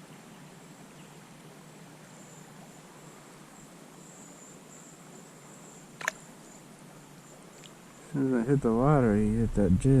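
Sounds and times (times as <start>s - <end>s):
faint hiss: 0.0s - 10.0s
insects trilling: 0.0s - 10.0s.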